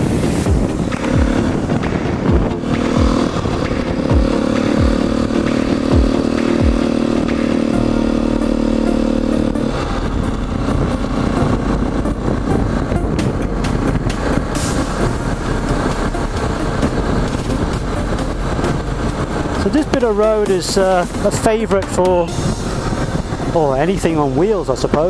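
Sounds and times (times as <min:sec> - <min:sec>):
motorcycle engine running: 0:00.0 - 0:25.0
rushing wind: 0:00.0 - 0:25.0.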